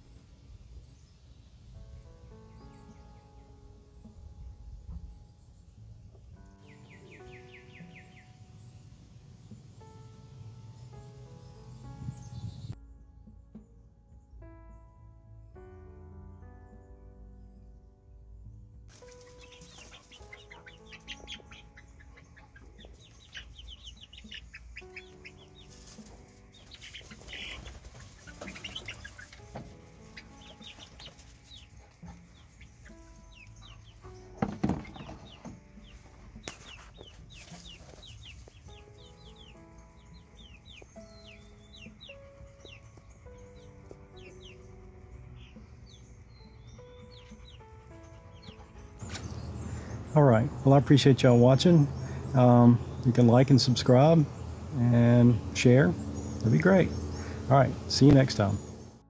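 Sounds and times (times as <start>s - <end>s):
soft background music: 0.0s - 59.0s
chicks peeping and clucking: 2.0s - 12.8s, 18.9s - 59.0s.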